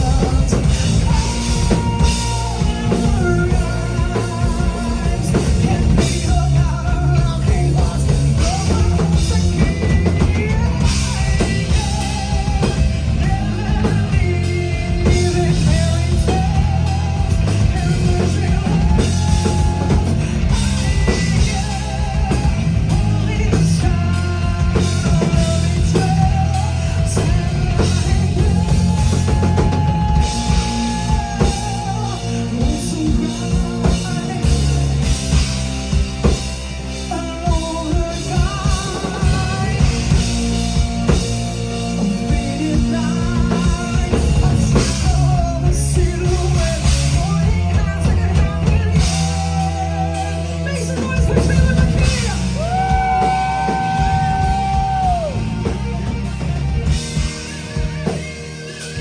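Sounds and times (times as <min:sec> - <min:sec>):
bass guitar: 0:00.0 - 0:59.0
drum kit: 0:00.0 - 0:59.0.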